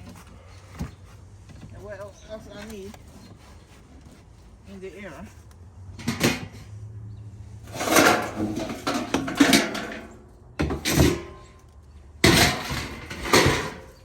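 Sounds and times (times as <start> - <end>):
stored items scraping and rustling: 0.0 - 14.0.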